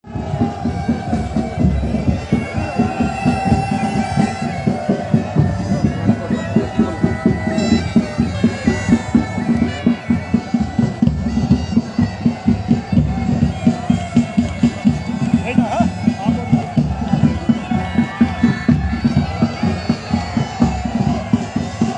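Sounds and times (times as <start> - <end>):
bagpipes melody over drone: 0.0 - 21.9
regular drumbeat: 0.0 - 21.9.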